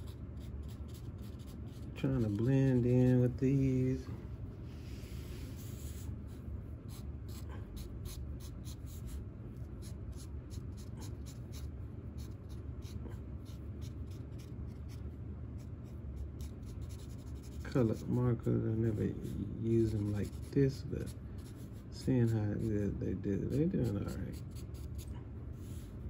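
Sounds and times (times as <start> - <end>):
marker scratching on paper: 0.0 - 3.2, 4.9 - 9.2, 9.8 - 18.2, 18.9 - 25.9
steady low hum: 0.0 - 26.0.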